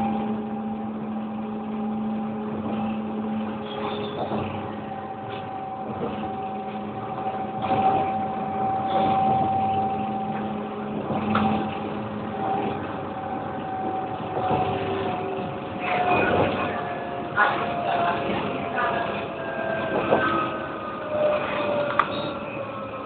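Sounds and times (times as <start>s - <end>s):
steel wheels rumbling on rails: 0.0s - 23.0s
tram electric hum: 0.0s - 23.0s.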